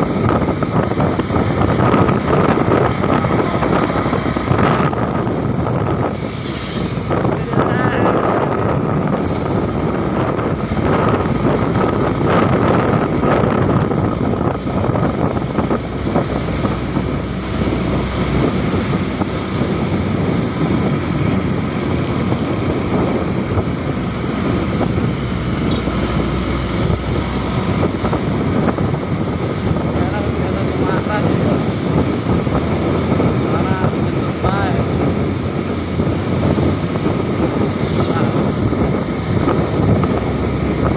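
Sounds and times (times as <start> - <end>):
vehicle engine and road noise: 0.0 - 40.9
wind buffeting microphone: 0.0 - 40.9.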